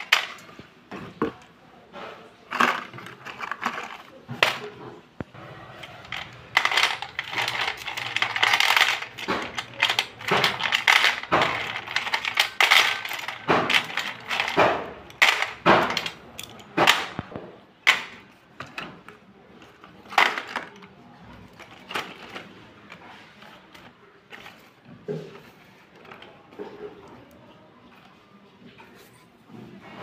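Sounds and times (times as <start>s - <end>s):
slate pencils clattering on metal plate: 0.0s - 27.4s.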